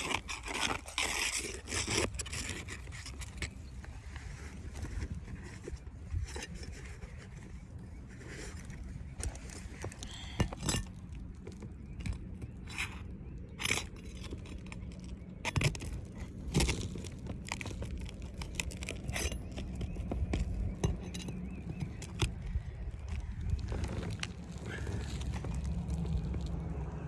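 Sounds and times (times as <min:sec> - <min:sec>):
shingles tearing and scraping: 0:00.0 - 0:26.7
low steady rumble: 0:00.0 - 0:27.0
sharp clicks and crunches: 0:00.0 - 0:27.0.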